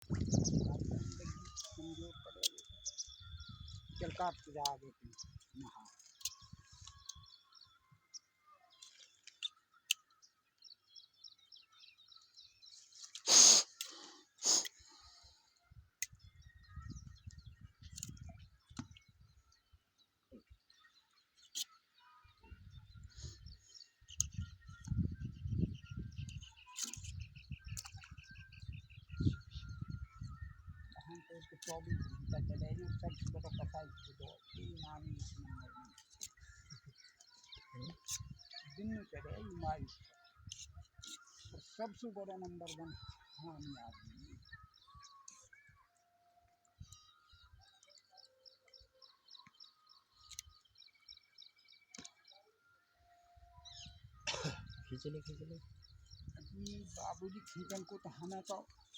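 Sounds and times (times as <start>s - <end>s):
birds chirping and calling: 0.0s - 58.9s.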